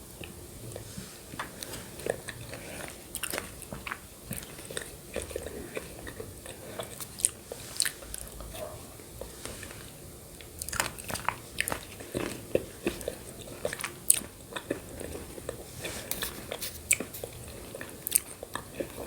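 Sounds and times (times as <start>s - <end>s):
wet chewing mouth sounds: 0.1s - 19.0s.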